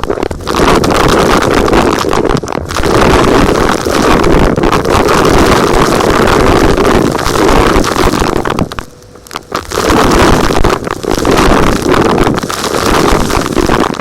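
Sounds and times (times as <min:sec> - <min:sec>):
rocks rattling through hose: 0:00.0 - 0:14.0.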